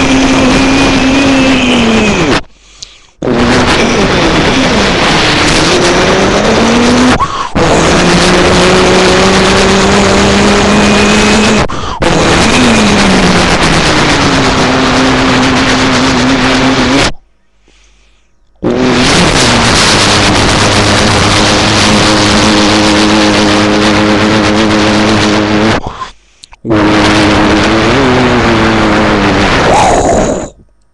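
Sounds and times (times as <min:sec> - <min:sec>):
rally car engine under load: 0:00.0 - 0:02.5, 0:03.1 - 0:17.2, 0:17.9 - 0:30.9.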